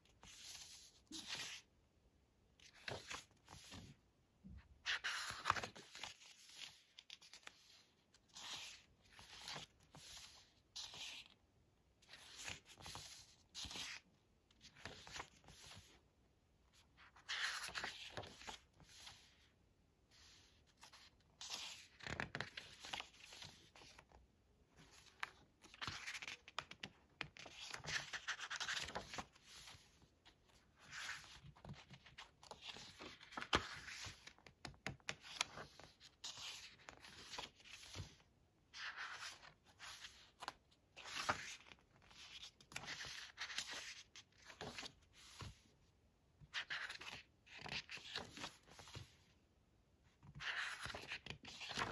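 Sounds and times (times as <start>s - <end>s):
book pages turning: 0.1s - 1.7s, 2.6s - 4.0s, 4.8s - 11.4s, 12.0s - 16.0s, 16.7s - 19.5s, 20.1s - 24.2s, 24.8s - 45.6s, 46.5s - 49.2s, 50.2s - 51.9s.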